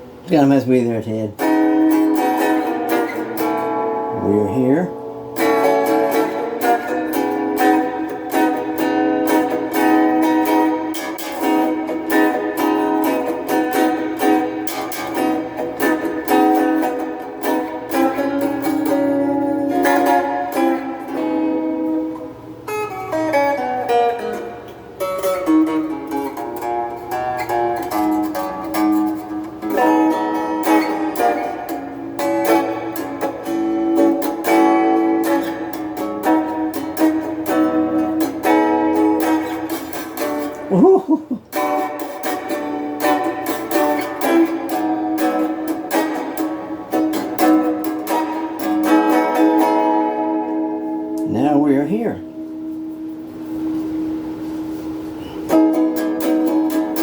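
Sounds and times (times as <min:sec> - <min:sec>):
clean electric guitar picking: 0:01.3 - 0:57.0.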